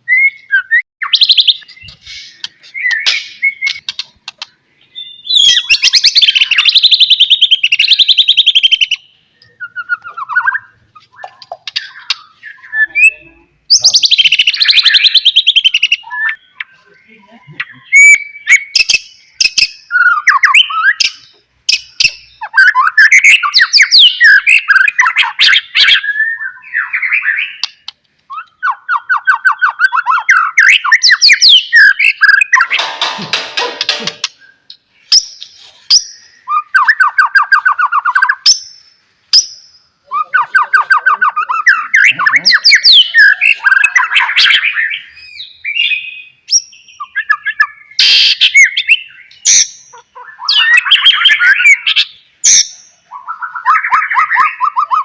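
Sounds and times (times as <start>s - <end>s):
songbird singing chattering phrases: 0.0s - 55.0s.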